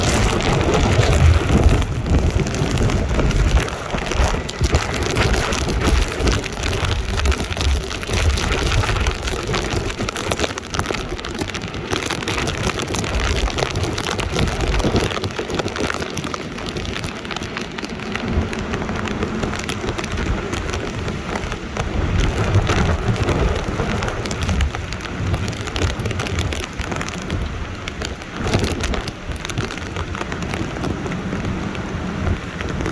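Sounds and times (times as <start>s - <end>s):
driving rain spattering: 0.0s - 32.9s
gale-force wind: 0.0s - 32.9s
wind buffeting microphone: 0.0s - 32.9s.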